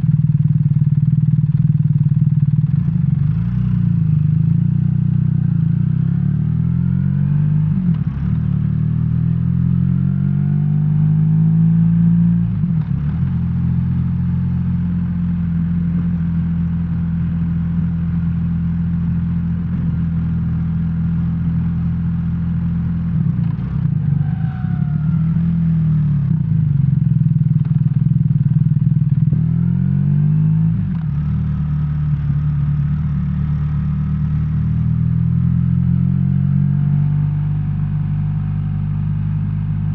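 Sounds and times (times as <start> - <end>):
motorcycle engine running: 0.0 - 10.3, 12.2 - 39.9.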